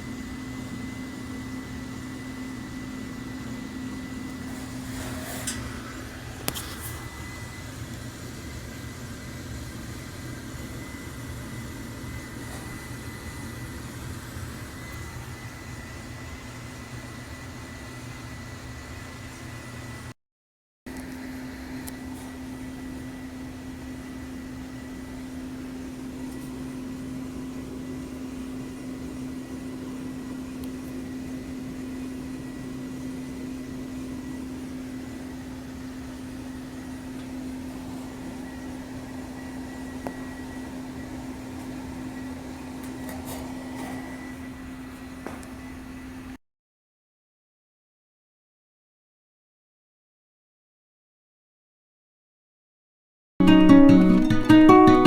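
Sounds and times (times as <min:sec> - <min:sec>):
faint high whine: 0:00.0 - 0:20.1, 0:20.9 - 0:46.4
heat pump unit humming: 0:00.0 - 0:20.1, 0:20.9 - 0:46.4.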